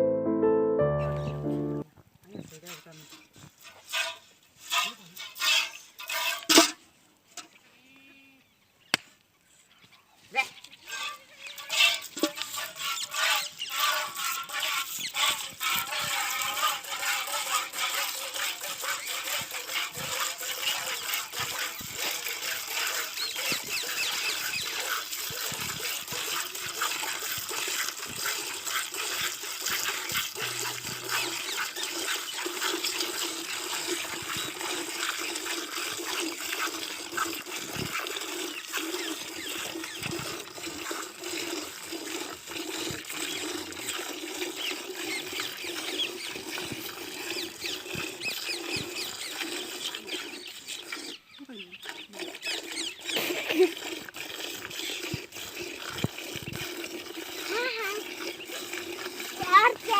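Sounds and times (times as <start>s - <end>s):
milk squirting into a pail: 10.9s - 51.2s, 51.8s - 59.9s.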